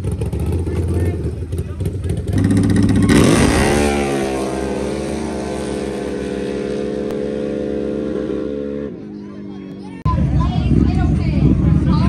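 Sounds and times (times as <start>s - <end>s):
atv engines at full throttle: 0.0s - 12.0s.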